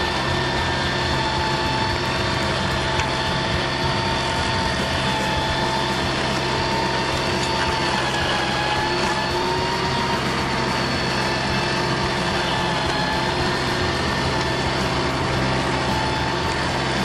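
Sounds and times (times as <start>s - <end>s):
machine engine running: 0.0s - 17.0s
wavering whine: 0.0s - 17.0s.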